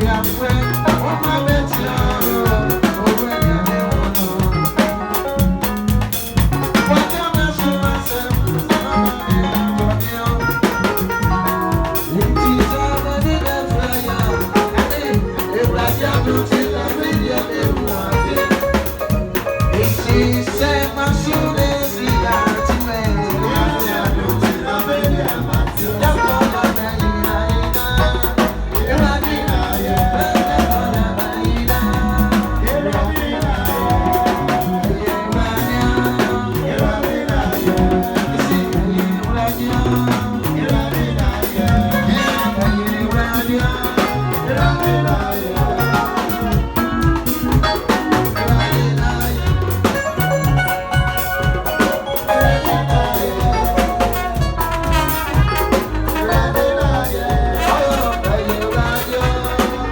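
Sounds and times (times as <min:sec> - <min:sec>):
music with drums: 0:00.0 - 0:59.9.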